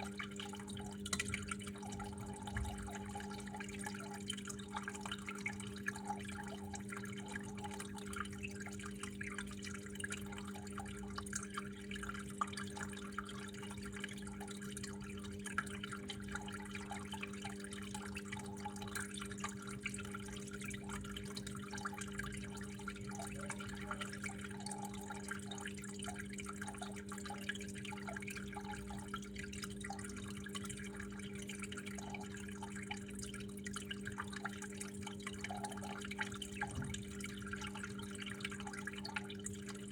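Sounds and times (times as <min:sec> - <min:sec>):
drips and small splashes: 0:00.0 - 0:39.9
water flowing and trickling: 0:00.0 - 0:39.9.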